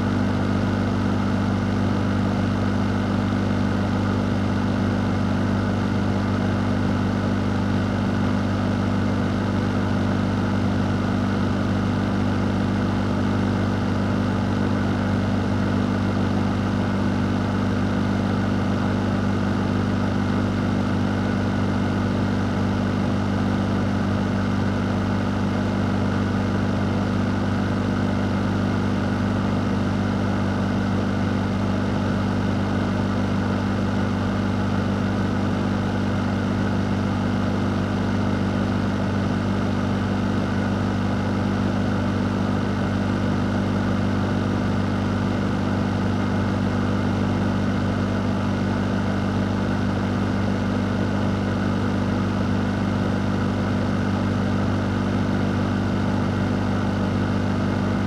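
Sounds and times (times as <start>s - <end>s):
fan motor hum: 0.0s - 58.0s.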